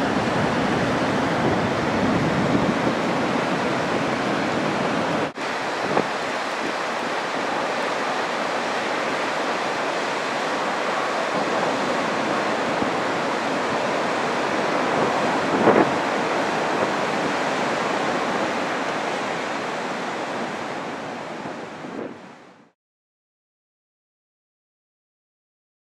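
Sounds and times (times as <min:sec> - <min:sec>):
waterfall roaring: 0:00.0 - 0:22.7.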